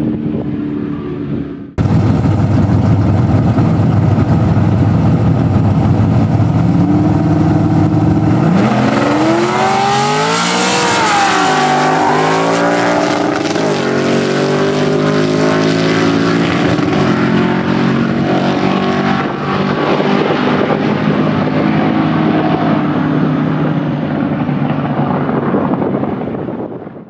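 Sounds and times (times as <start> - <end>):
car engine at full throttle: 0.0 - 27.0.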